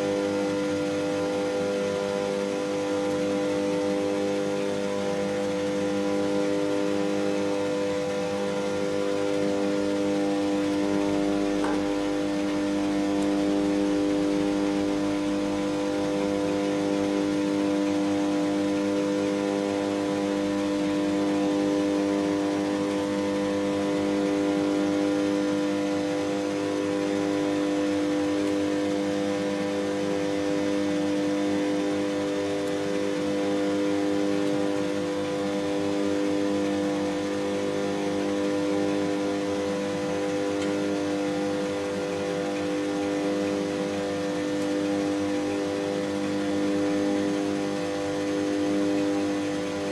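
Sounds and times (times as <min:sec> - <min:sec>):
cooling fans whirring: 0:00.0 - 0:49.9
steady electrical hum: 0:00.0 - 0:49.9.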